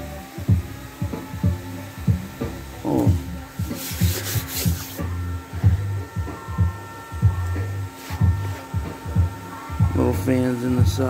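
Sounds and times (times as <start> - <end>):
bass-heavy music through subwoofer: 0.0 - 11.0
steady hum: 0.0 - 11.0.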